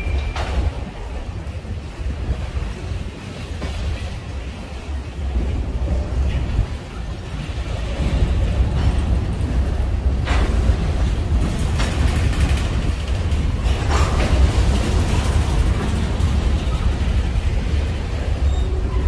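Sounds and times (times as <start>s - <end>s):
train cars rolling on rails: 0.0s - 19.0s
wheel and car clatter: 0.0s - 19.0s.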